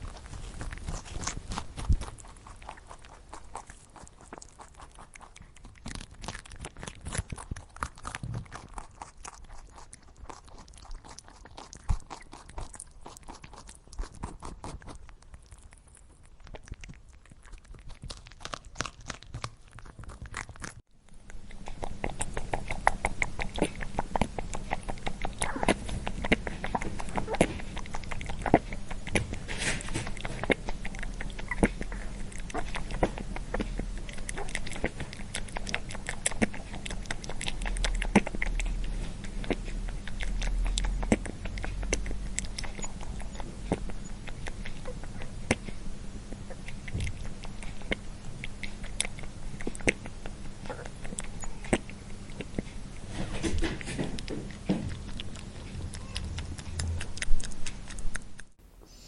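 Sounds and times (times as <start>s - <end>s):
low steady hum: 0.0s - 59.0s
rabbit chewing crunchily: 0.0s - 59.0s.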